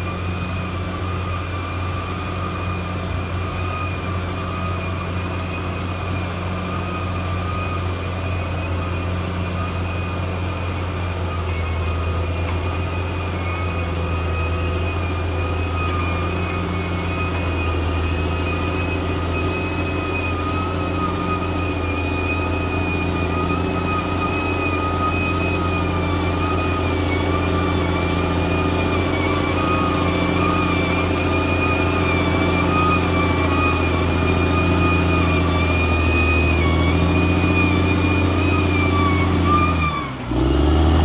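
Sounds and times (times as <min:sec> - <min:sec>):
bulldozer diesel engine drone: 0:00.0 - 0:41.0.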